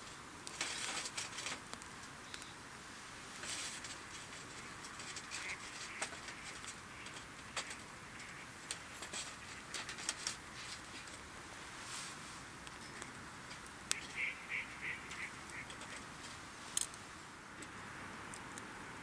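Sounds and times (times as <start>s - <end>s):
fire hiss: 0.0s - 17.4s
campfire crackling: 0.0s - 19.0s.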